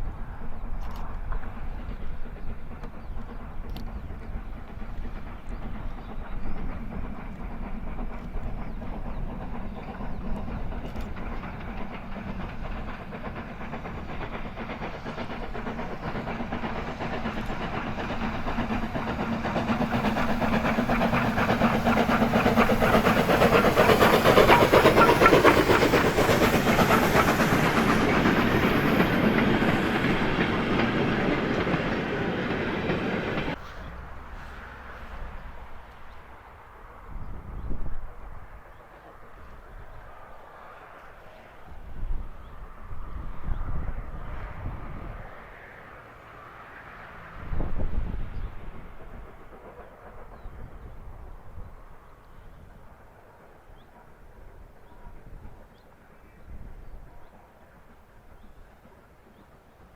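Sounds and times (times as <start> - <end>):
steam train approaching: 0.0 - 59.9.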